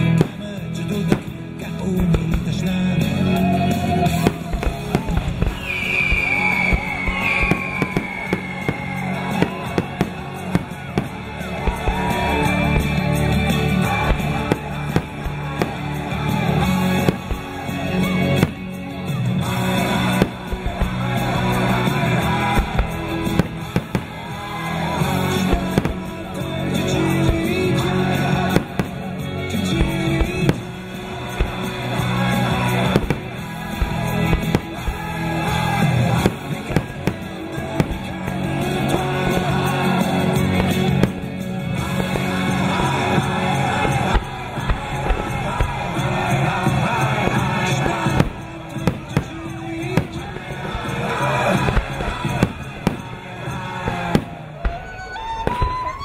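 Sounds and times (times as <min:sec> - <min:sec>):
fireworks bangs and crackles: 0:00.0 - 0:56.0
loud music: 0:00.0 - 0:56.0.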